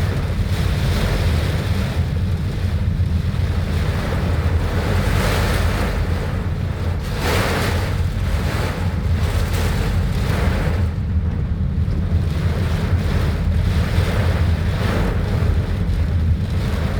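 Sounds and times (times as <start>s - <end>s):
heavy rainstorm: 0.0s - 16.9s
wind buffeting microphone: 0.0s - 16.9s.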